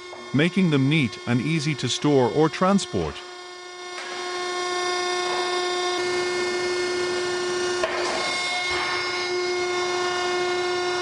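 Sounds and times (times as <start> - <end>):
hydraulic press whine: 0.0 - 11.0.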